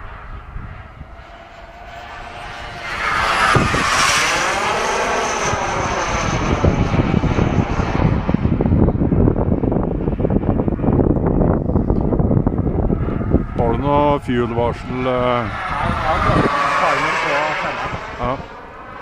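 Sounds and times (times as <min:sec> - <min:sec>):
model jet turbine whining: 0:00.0 - 0:19.0
wind buffeting microphone: 0:00.0 - 0:19.0.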